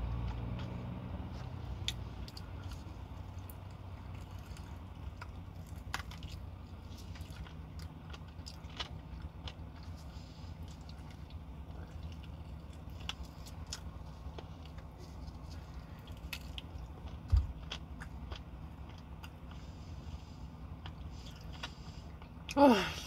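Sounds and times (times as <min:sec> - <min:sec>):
person chewing food: 0:00.0 - 0:22.6
low steady hum: 0:00.0 - 0:23.0.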